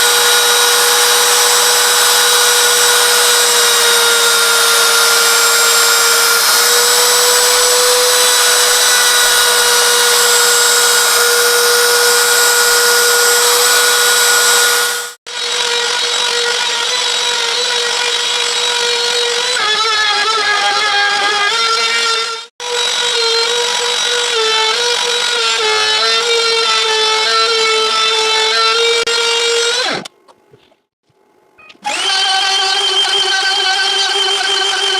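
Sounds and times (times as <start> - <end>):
end mill cutting metal: 0.0 - 30.1
router spindle whine: 0.0 - 30.1, 31.8 - 34.9.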